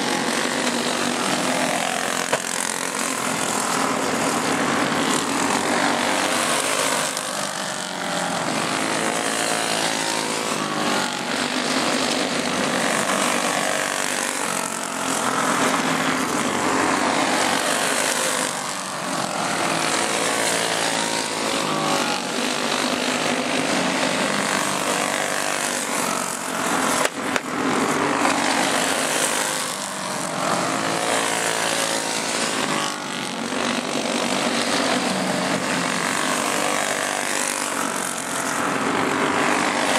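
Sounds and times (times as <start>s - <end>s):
go-kart engines racing: 0.0s - 39.9s.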